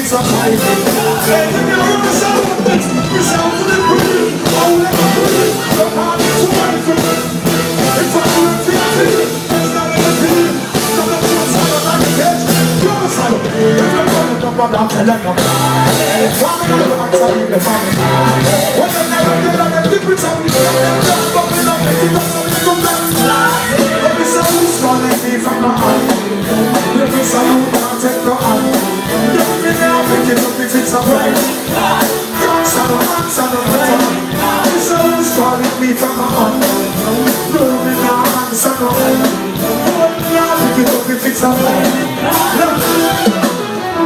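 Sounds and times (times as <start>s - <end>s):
live reggae band with singing: 0.0s - 44.0s.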